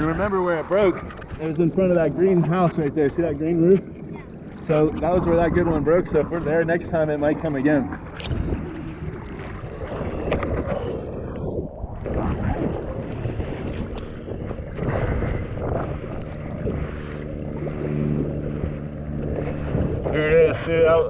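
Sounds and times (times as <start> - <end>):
propeller plane droning: 0.0 - 21.0
water sloshing: 0.0 - 21.0
wind on microphone: 0.0 - 21.0.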